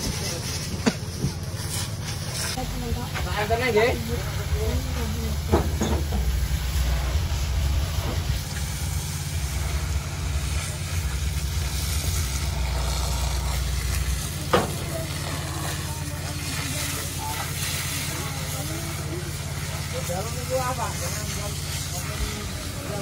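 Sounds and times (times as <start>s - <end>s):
water spraying on burnt wood: 0.0s - 23.0s
low drone: 1.4s - 23.0s.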